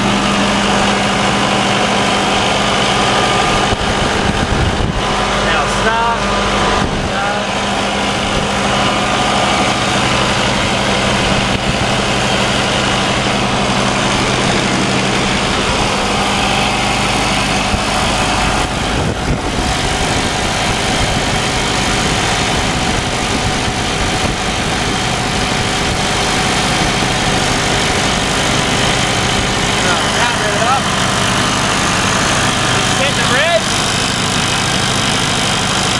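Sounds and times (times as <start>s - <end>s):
diesel generator running: 0.0s - 35.9s.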